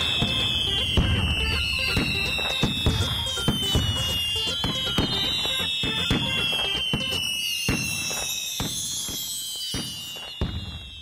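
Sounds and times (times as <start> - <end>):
cartoon firework bangs: 0.0 - 11.0
descending whistle: 0.0 - 11.0
high glittering tinkles: 0.0 - 11.0.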